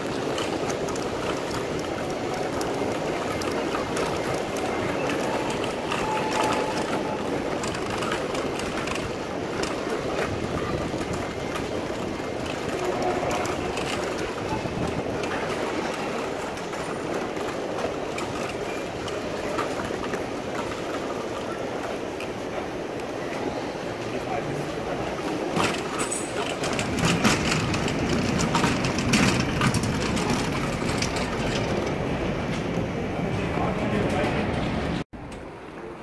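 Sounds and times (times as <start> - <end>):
airport crowd hubbub: 0.0 - 36.0.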